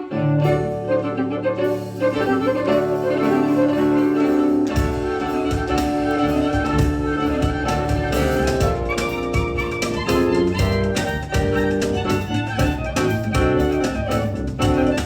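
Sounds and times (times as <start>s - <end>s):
bowed violin melody: 0.0s - 15.0s
bass with rhythmic strokes: 0.4s - 15.0s.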